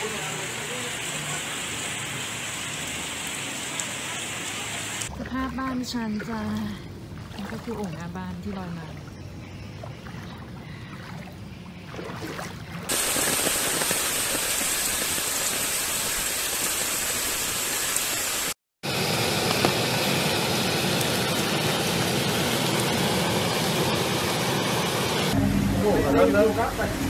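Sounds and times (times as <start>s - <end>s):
floodwater rushing: 0.0s - 5.6s, 6.2s - 27.0s.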